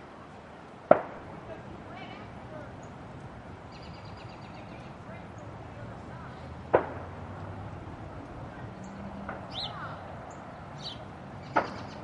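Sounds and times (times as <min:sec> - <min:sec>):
outdoor ambience: 0:00.0 - 0:12.0
birds chirping: 0:01.5 - 0:12.0.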